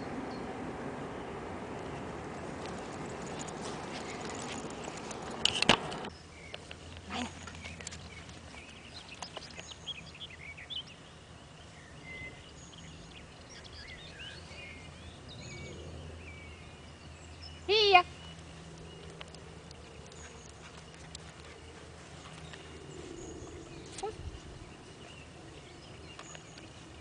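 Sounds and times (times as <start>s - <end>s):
small birds chirping: 1.1s - 27.0s.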